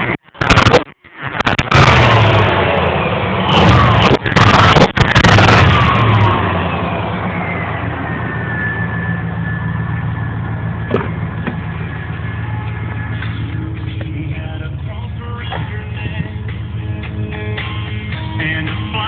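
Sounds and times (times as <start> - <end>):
faint high whine: 0.4 - 18.4
truck engine idling: 1.6 - 19.0.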